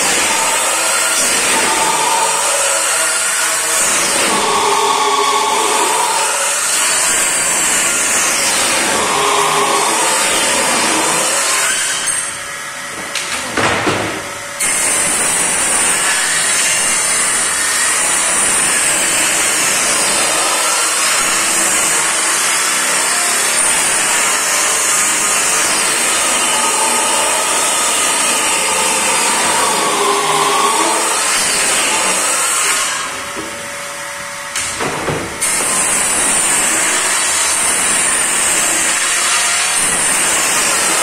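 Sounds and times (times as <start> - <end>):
table saw whining: 0.0 - 41.0.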